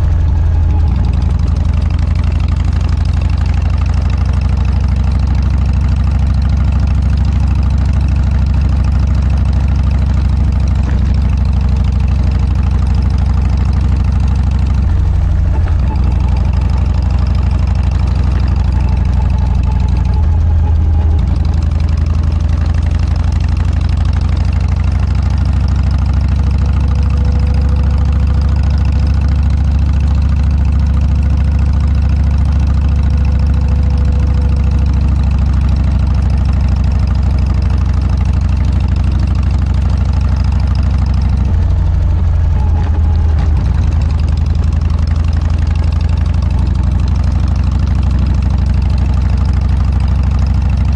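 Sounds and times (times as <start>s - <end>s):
motorcycle engine running loud: 0.0s - 50.9s.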